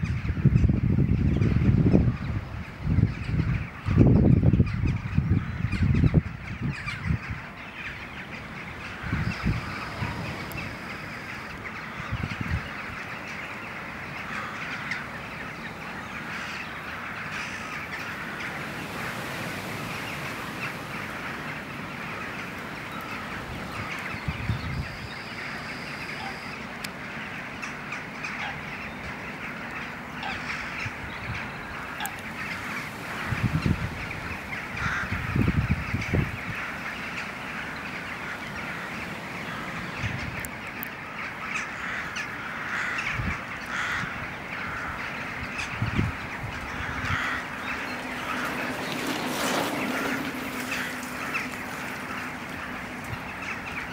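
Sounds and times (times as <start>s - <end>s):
birds calling and chattering: 0.0s - 53.9s
harsh crow-like calls: 0.0s - 53.9s.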